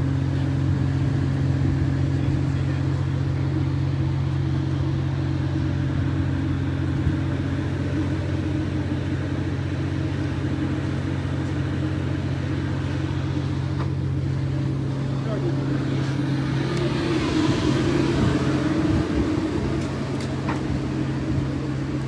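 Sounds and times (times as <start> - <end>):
machinery drone: 0.0 - 22.0.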